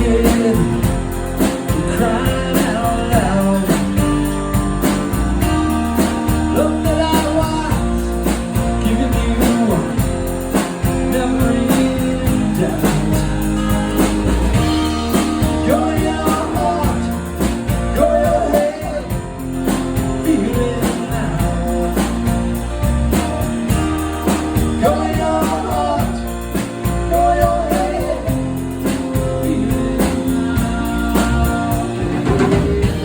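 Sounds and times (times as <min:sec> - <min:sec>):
rock band playing: 0:00.0 - 0:33.0
drum beat: 0:00.1 - 0:33.0.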